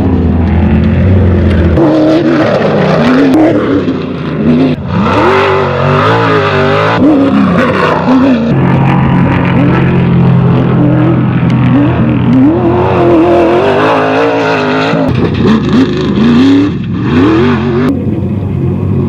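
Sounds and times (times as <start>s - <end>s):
race vehicle engine revving: 0.0s - 19.0s.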